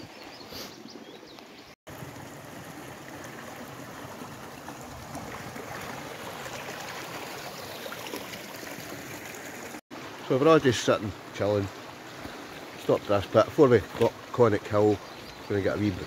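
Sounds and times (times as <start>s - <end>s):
stream flowing over stones: 1.4s - 16.0s.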